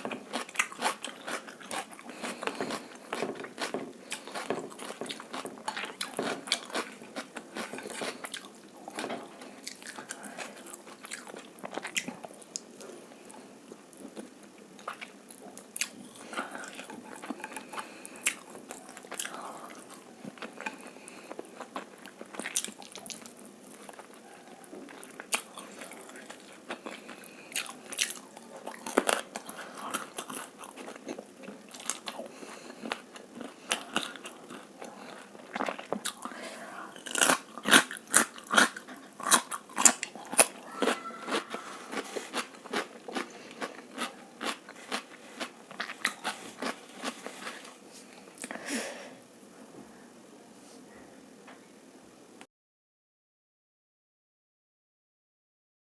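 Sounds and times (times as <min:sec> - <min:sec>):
person chewing food: 0:00.0 - 0:48.6.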